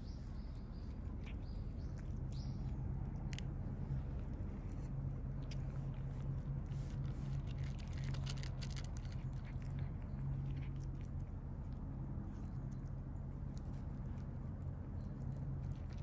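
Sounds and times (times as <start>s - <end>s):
cats crunching food: 0.0s - 16.0s
steady low hum: 0.0s - 16.0s.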